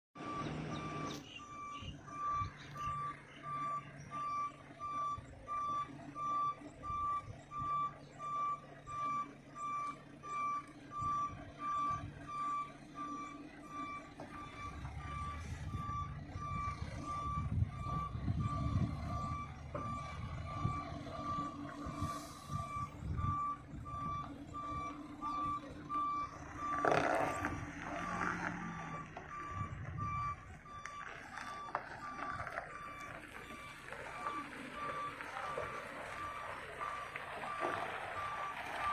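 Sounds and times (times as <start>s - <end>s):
back-up alarm beeping: 0.2s - 38.9s
engine rumble: 0.2s - 38.9s.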